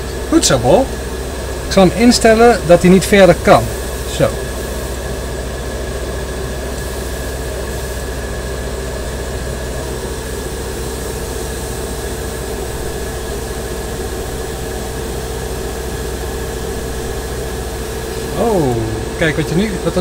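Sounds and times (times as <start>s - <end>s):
low hum: 0.0s - 20.0s
airbrush air hiss: 2.0s - 19.7s.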